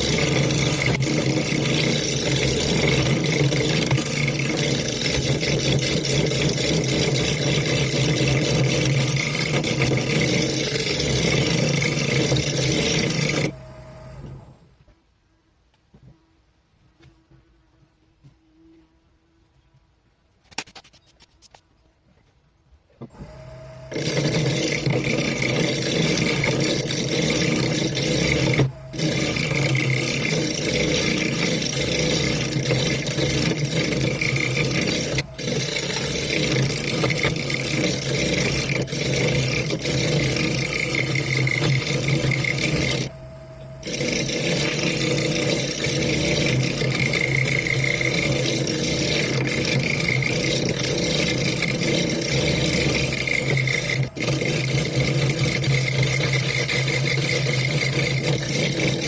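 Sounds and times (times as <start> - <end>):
rough wood cutting noise: 0.0 - 13.7, 23.2 - 43.2, 43.8 - 59.0
lathe motor hum: 0.0 - 14.6, 23.2 - 59.0.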